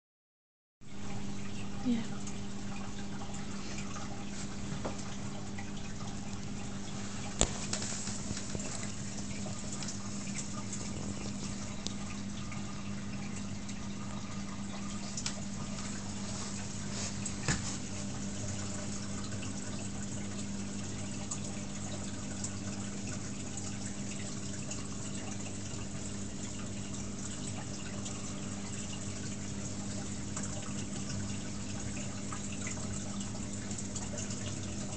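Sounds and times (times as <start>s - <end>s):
water trickling and dripping: 0.9s - 34.9s.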